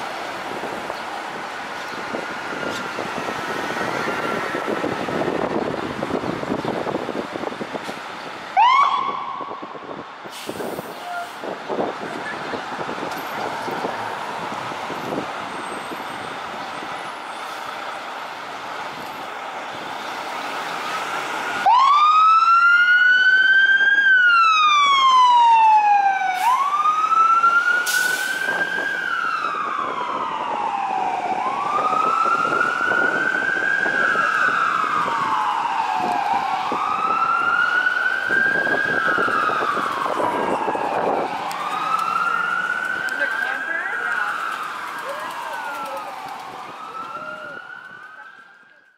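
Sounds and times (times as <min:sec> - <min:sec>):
fire engine siren wailing: 0:00.0 - 0:48.9
street traffic: 0:00.0 - 0:48.9.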